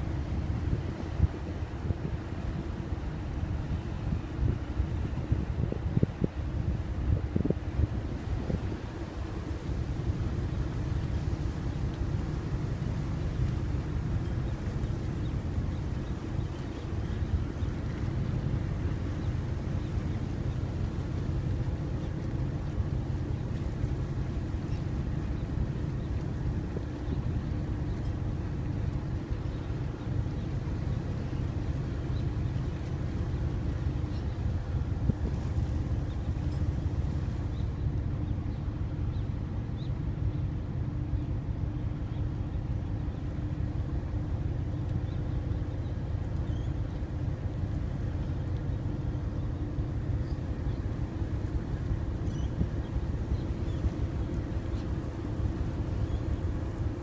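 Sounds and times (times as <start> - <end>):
water noise: 0.0 - 57.0
wind: 0.0 - 57.0.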